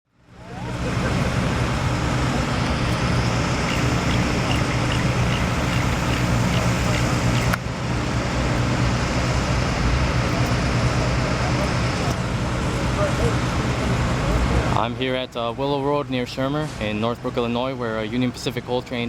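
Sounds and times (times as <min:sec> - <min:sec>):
low engine hum: 0:00.1 - 0:15.6
road traffic noise: 0:00.1 - 0:19.0.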